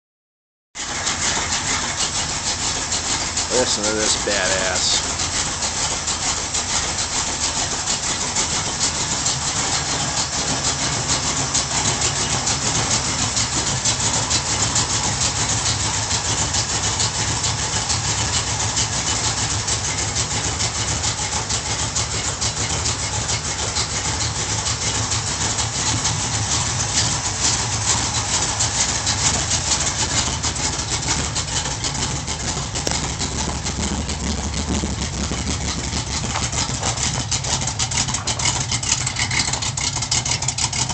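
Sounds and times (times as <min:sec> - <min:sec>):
car engine idling: 0:00.8 - 0:40.9.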